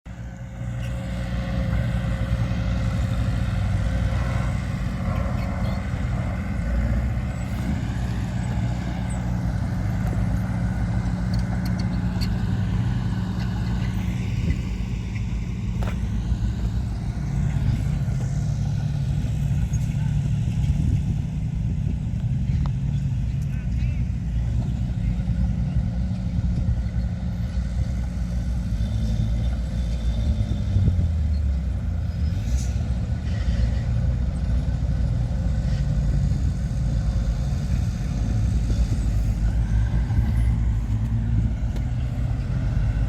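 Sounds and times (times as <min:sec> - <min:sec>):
heavy diesel machinery running: 0:00.0 - 0:43.0.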